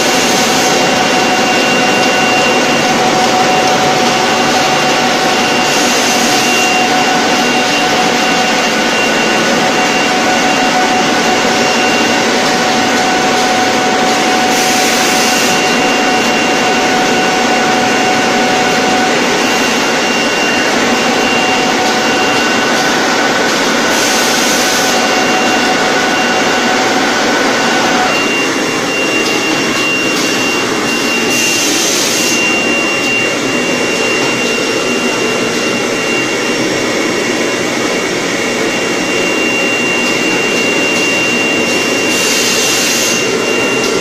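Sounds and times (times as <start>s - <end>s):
high mechanical whine: 0.0s - 44.0s
production line machinery running: 0.0s - 44.0s.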